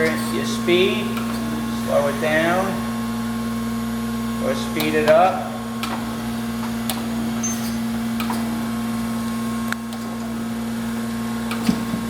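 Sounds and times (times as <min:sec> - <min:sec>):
grinder machine humming: 0:00.0 - 0:12.0.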